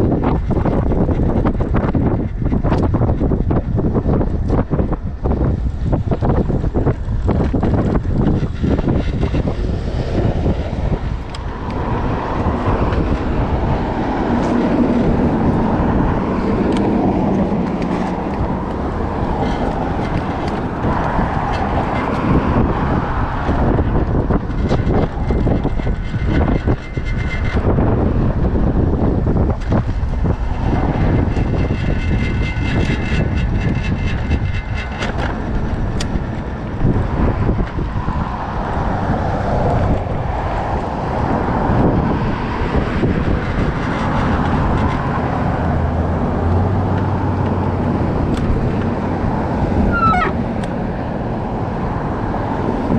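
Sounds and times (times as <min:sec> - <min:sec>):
traffic noise: 0:00.0 - 0:52.9
wind buffeting microphone: 0:00.0 - 0:52.9
vehicle passing: 0:05.6 - 0:52.9.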